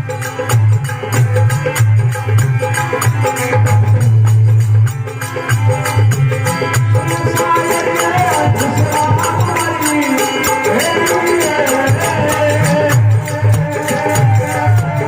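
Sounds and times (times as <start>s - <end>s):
folk devotional music: 0.0s - 15.0s
hand drum beat: 0.0s - 15.0s.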